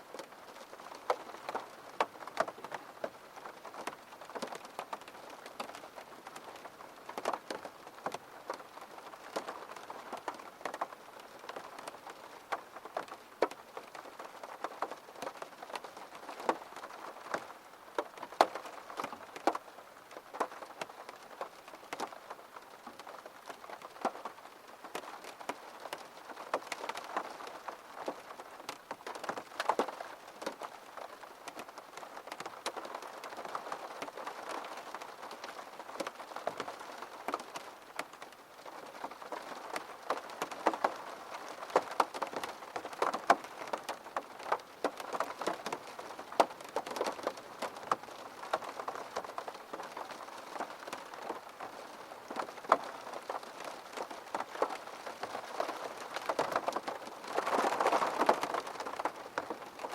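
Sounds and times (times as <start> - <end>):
rain patter: 0.0 - 59.9.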